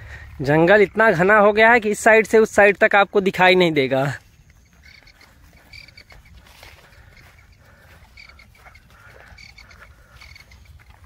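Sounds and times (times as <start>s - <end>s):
footsteps on a path: 0.0s - 11.0s
rustling through scrub: 0.0s - 11.0s.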